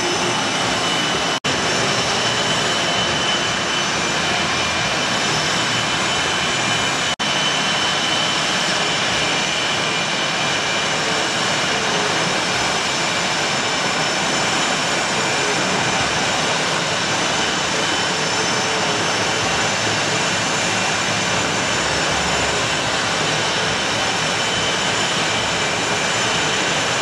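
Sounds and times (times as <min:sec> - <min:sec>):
high turbine whine: 0:00.0 - 0:27.0
jet engines idling: 0:00.0 - 0:27.0.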